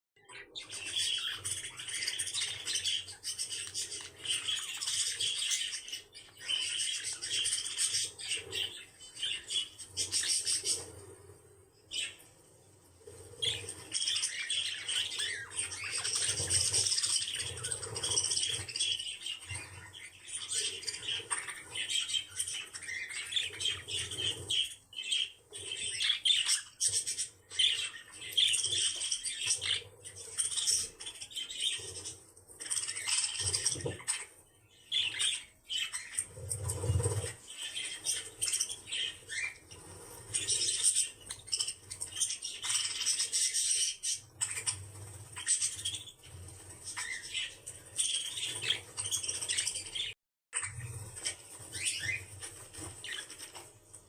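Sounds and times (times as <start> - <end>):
small birds chattering: 0.2 - 54.0.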